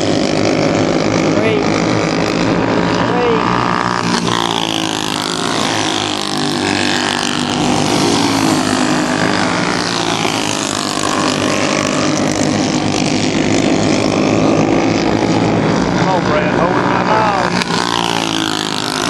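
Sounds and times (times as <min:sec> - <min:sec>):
racing engines at speed: 0:00.0 - 0:19.0.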